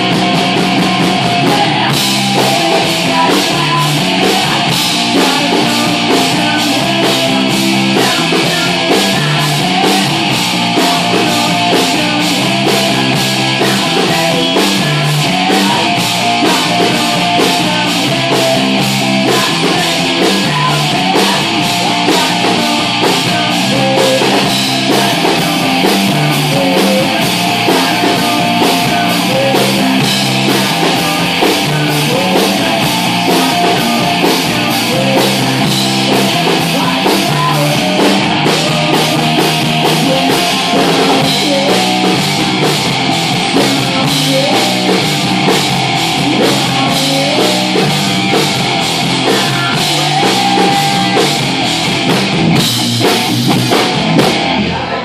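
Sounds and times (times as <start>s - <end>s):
drum kit beating: 0.0s - 55.0s
electric guitars: 0.0s - 55.0s.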